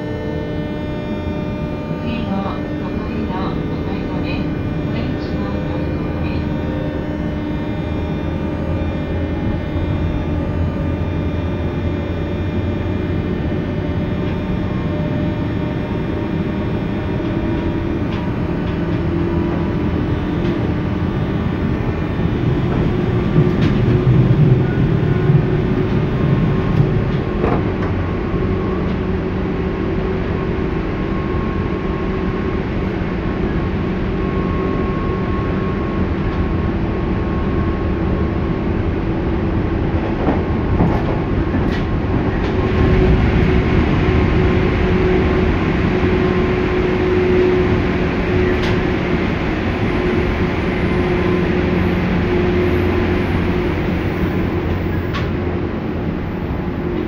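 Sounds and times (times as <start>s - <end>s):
electric train rumble: 0.0s - 57.0s.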